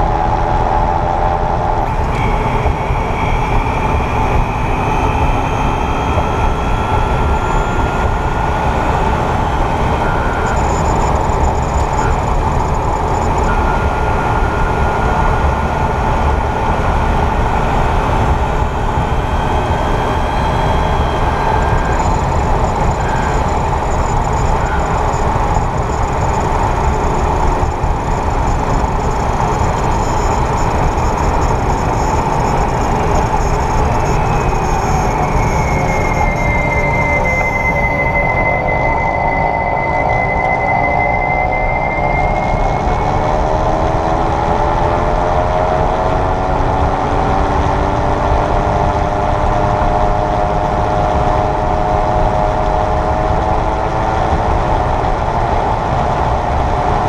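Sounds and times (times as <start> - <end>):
road and tyre rumble: 0.0 - 57.0
thin whining tones: 1.7 - 54.6.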